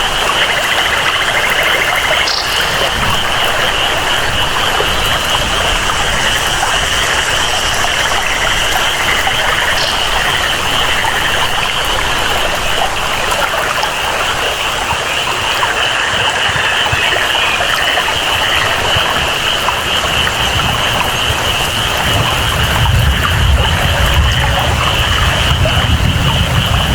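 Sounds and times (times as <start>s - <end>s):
flowing water: 0.0s - 26.9s
frogs or insects calling: 0.0s - 26.9s
steady rain: 0.0s - 26.9s.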